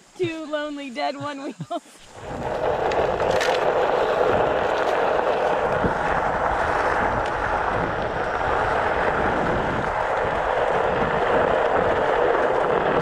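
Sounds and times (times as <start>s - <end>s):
tyre rolling on gravel: 2.0s - 13.0s
wind on microphone: 2.0s - 13.0s.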